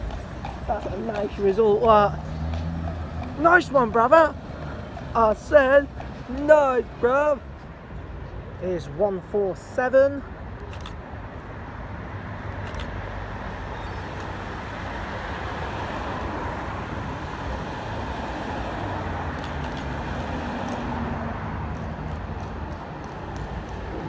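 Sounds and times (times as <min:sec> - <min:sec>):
tram rumbling past: 0:00.0 - 0:08.0, 0:11.4 - 0:24.0.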